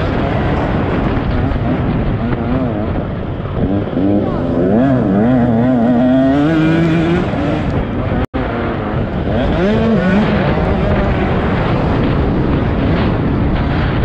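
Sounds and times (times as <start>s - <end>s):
dense rush of noise: 0.0s - 14.0s
motocross bike engine: 0.0s - 14.0s.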